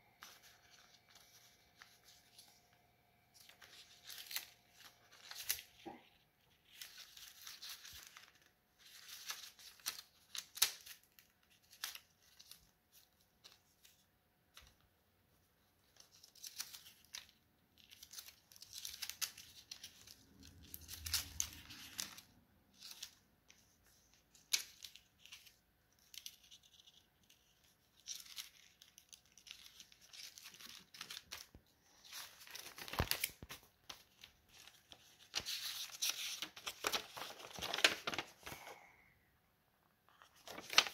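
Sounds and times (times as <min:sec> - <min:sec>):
paper rustling and crinkling: 0:00.1 - 0:39.0, 0:39.9 - 0:40.9
sharp paper clicks: 0:03.4 - 0:14.8, 0:15.8 - 0:38.7, 0:40.1 - 0:40.9.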